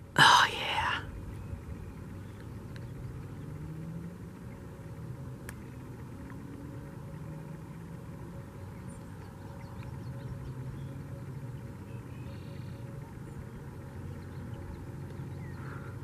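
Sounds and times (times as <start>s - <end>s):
low outdoor rumble with hum: 0.0s - 16.0s.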